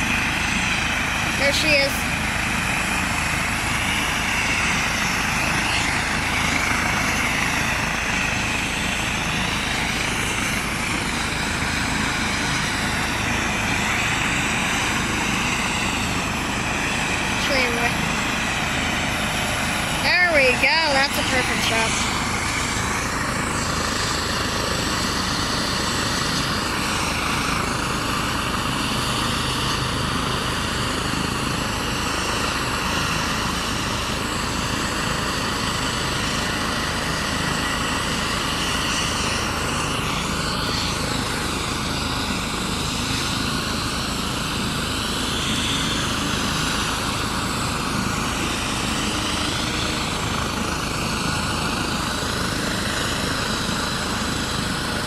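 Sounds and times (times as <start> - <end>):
helicopter rotor running: 0.0 - 55.0.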